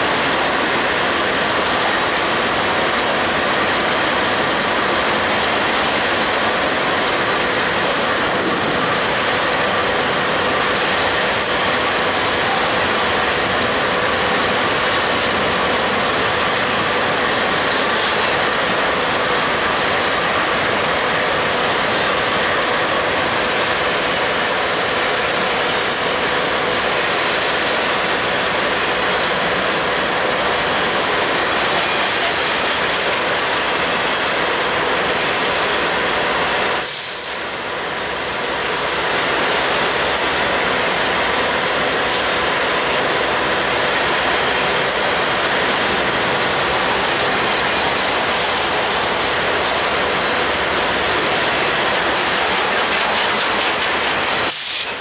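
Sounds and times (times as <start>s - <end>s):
freight cars rattling: 0.0s - 54.8s
steel wheels rushing on rail: 0.0s - 55.0s.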